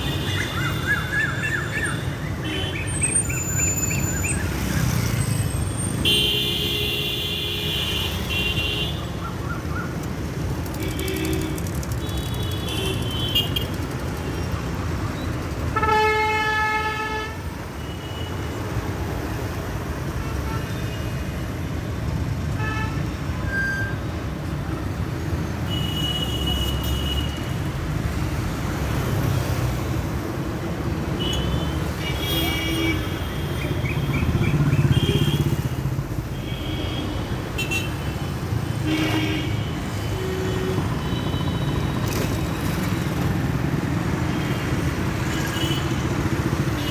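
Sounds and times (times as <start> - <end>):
traffic rumble: 0.0 - 46.9.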